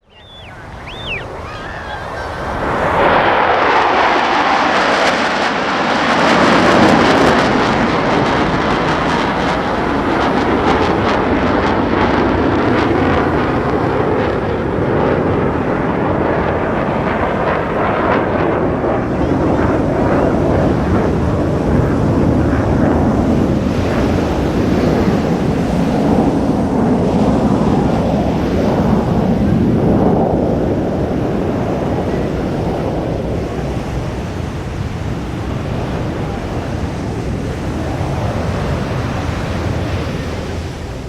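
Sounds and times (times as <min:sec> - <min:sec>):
fighter jets flying past: 0:00.0 - 0:41.0.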